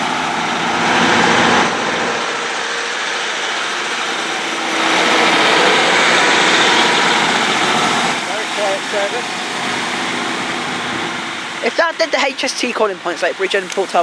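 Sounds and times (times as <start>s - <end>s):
diesel train engines rumbling: 0.0s - 14.0s.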